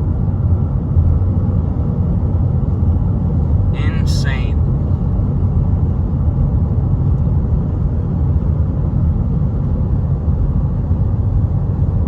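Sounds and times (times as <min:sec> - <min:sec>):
engine and tyre rumble: 0:00.0 - 0:03.7, 0:04.6 - 0:12.0.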